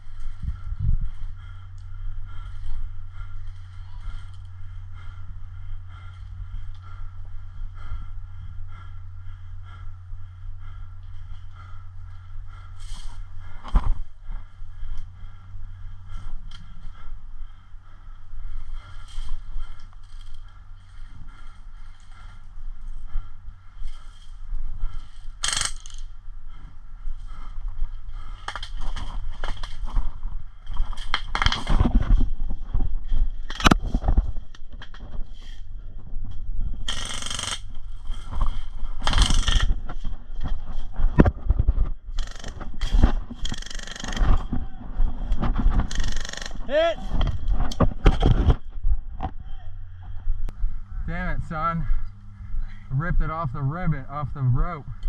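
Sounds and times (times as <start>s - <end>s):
person breathing hard: 0.0s - 49.1s, 49.7s - 53.4s
steady low rumble: 0.0s - 55.0s.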